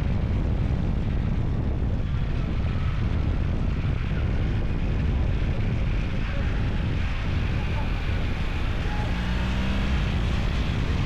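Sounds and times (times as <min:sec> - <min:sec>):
baler engine drone: 0:00.0 - 0:11.0.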